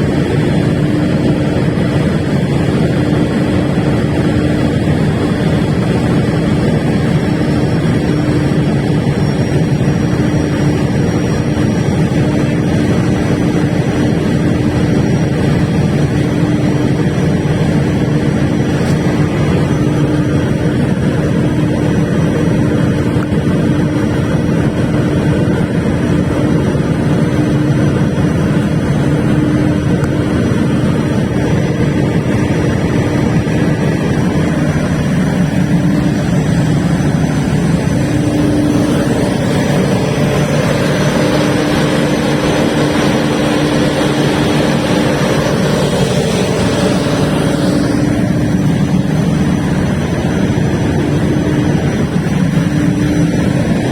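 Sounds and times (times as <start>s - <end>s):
diesel generator droning: 0.0s - 53.9s.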